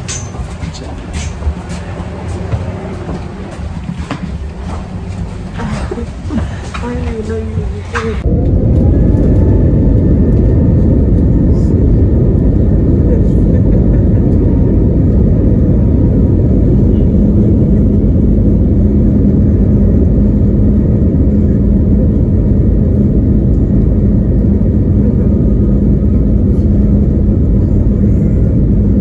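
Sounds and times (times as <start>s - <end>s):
airliner cabin rumble: 0.0s - 29.0s
steady hum: 0.0s - 29.0s.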